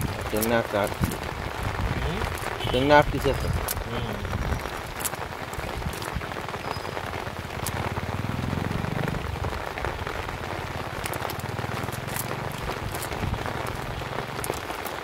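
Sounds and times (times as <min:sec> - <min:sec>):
rain on wet ground: 0:00.0 - 0:15.0.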